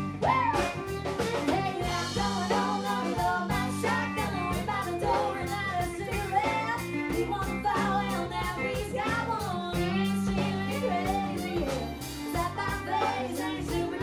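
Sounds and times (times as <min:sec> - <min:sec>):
country band playing: 0:00.0 - 0:14.0
woman singing: 0:00.0 - 0:14.0.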